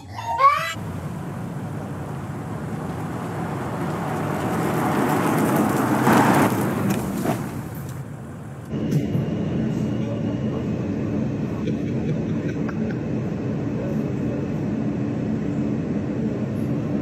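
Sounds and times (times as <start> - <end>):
car engine and exhaust: 0.8 - 17.0.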